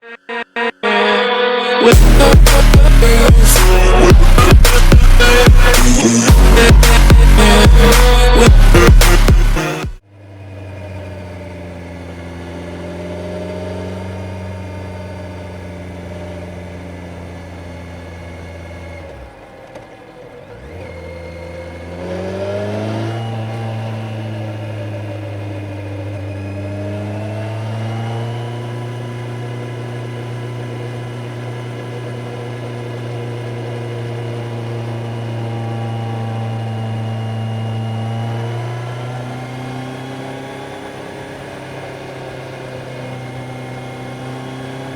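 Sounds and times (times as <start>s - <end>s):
motorcycle engine running: 1.9s - 44.9s.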